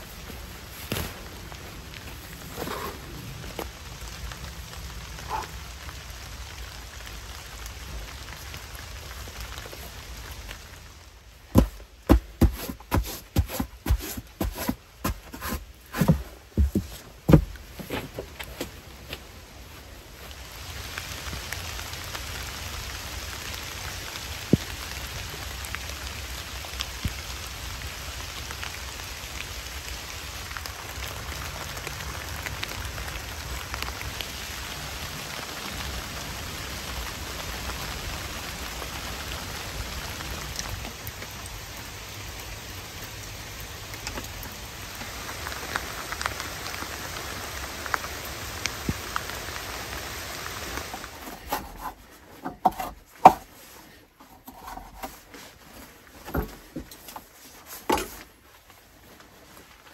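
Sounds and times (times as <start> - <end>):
rain falling on forest floor: 0.0 - 59.9.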